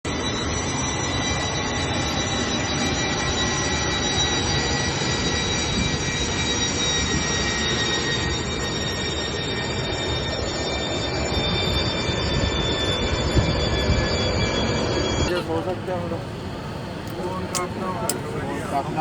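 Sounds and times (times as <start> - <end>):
jet engines running: 0.1 - 19.0.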